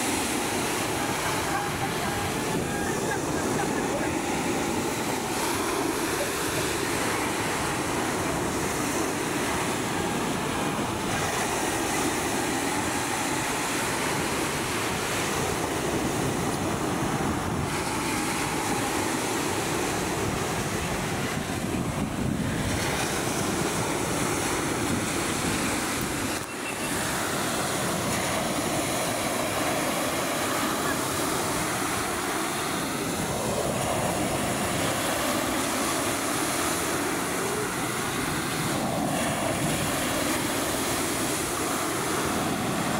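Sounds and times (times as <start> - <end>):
surf breaking on beach: 0.0 - 42.9
wind noise on microphone: 0.0 - 42.9.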